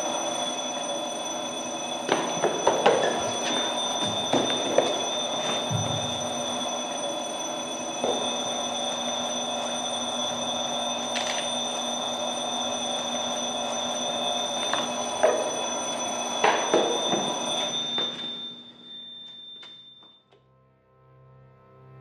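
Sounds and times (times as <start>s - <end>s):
elevator alarm bell ringing: 0.0s - 20.3s.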